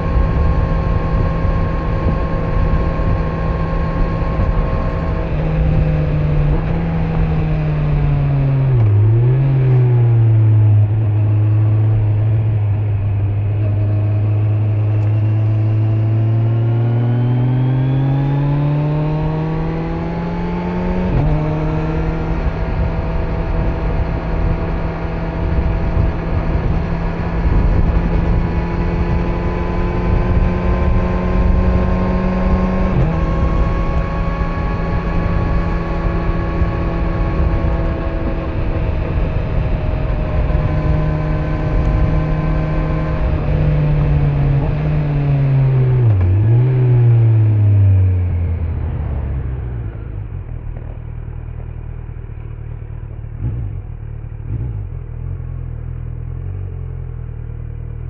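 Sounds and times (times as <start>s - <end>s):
motorcycle engine accelerating: 0.0s - 58.0s
wind and road rush: 0.0s - 58.0s.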